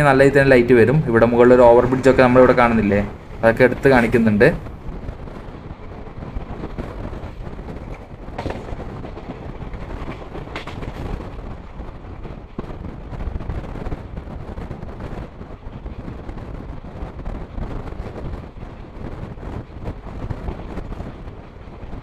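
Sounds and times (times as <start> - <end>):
train rumbling and rushing: 0.0 - 22.0.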